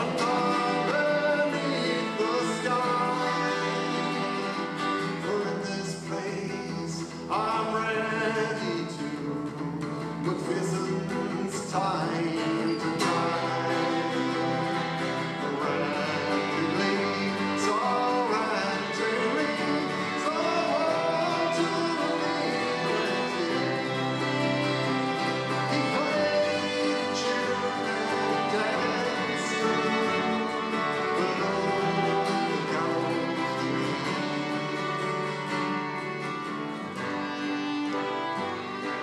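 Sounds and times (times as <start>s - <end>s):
violins playing: 0.0s - 9.6s, 10.2s - 39.0s
man singing: 0.0s - 35.5s
acoustic guitar strumming: 0.0s - 39.0s.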